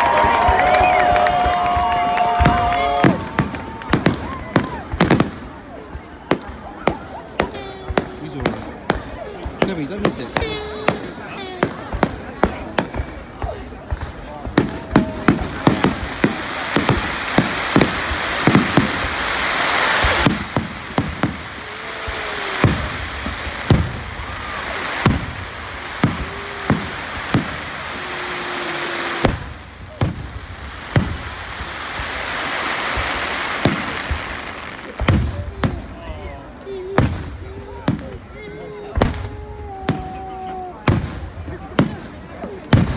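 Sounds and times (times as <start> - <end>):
crackling hiss: 0.0 - 42.9.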